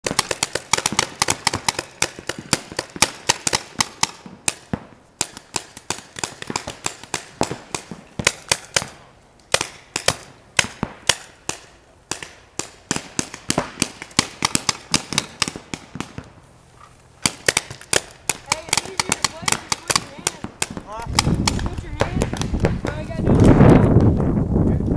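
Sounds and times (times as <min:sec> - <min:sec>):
paintball markers firing pops: 0:00.0 - 0:16.4, 0:17.2 - 0:24.2.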